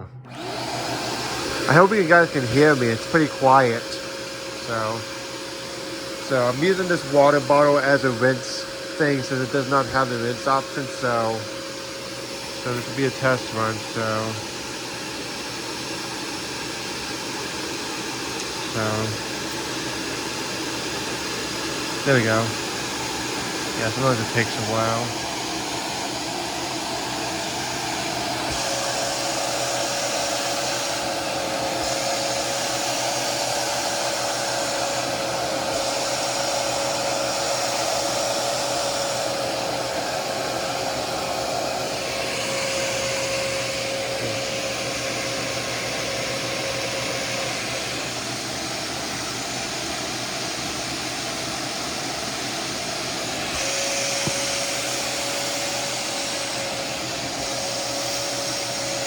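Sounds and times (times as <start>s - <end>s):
carpet shampooer suction rush: 0.0s - 59.0s
motor whine: 0.0s - 59.0s.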